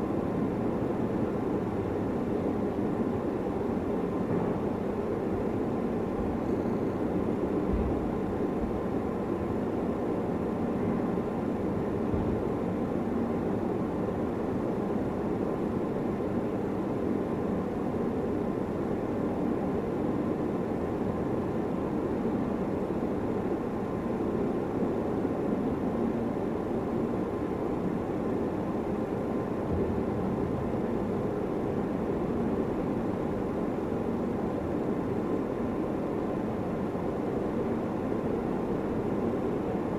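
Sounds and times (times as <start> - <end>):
low background noise with faint tone: 0.0 - 39.9.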